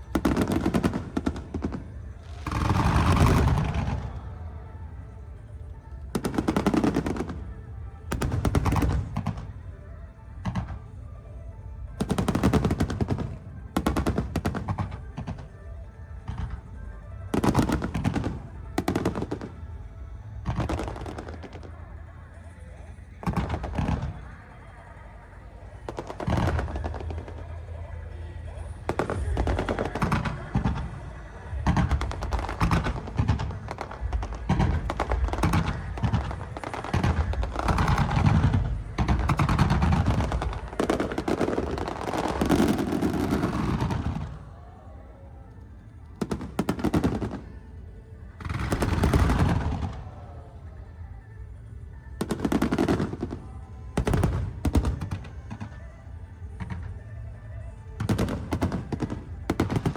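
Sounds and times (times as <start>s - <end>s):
fireworks bangs and crackles: 0.0s - 24.9s, 25.5s - 59.9s.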